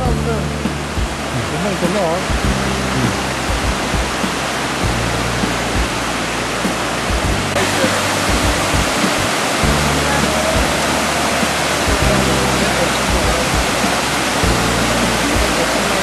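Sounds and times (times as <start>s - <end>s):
soft background music: 0.0s - 16.0s
waterfall rushing over rocks: 0.0s - 16.0s.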